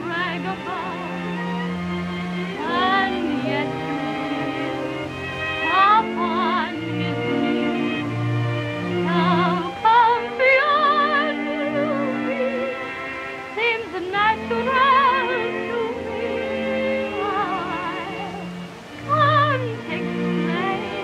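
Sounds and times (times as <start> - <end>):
orchestral accompaniment: 0.0 - 21.0.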